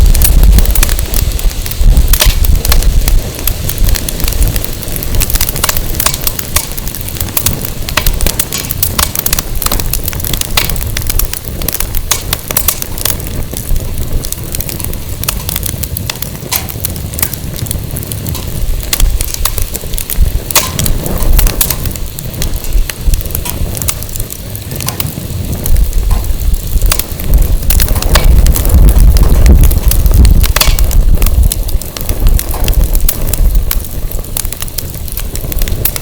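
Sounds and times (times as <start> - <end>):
campfire crackling and popping: 0.0 - 36.0
wind rumble on microphone: 0.0 - 36.0.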